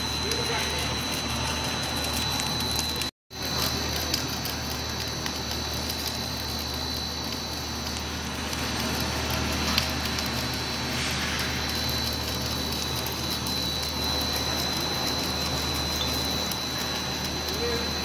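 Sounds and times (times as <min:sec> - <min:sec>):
snack extruder machine running: 0:00.0 - 0:18.0.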